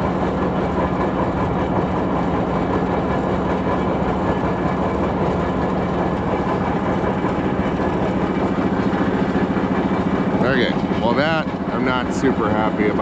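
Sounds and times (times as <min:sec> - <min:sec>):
truck engine low hum: 0:00.0 - 0:13.0.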